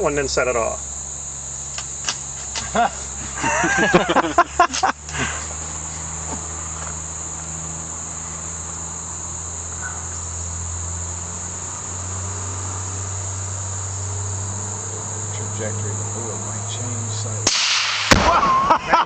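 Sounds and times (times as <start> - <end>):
low steady hum: 0.0 - 17.5
crickets chirping: 0.0 - 19.0.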